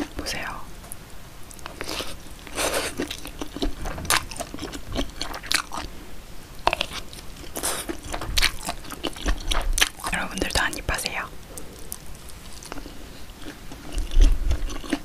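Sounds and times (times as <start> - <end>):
chewing with soft crunches: 1.4 - 6.0, 6.6 - 15.0.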